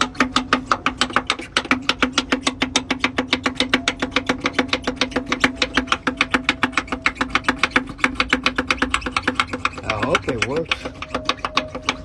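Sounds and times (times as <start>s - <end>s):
electric fuel pump clicking rapidly: 0.0s - 12.0s
steady pump hum: 0.0s - 12.0s.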